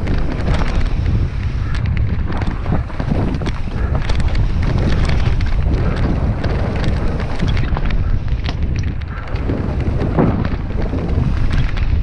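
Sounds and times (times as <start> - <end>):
bike clicking and rattling: 0.0 - 12.0
heavy low rumble: 0.0 - 12.0
wind buffeting microphone: 0.0 - 12.0.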